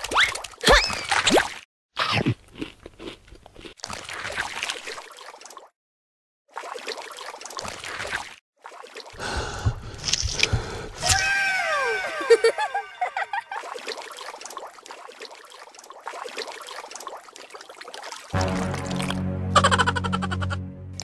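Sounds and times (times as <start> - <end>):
wet gurgling and squishing: 0.0 - 5.8, 6.5 - 12.2, 12.8 - 19.2.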